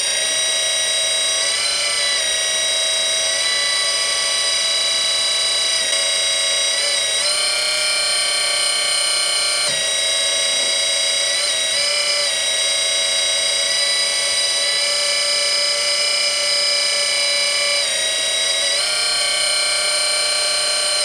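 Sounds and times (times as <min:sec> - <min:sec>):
hydraulic pump motor whining: 0:00.0 - 0:21.0.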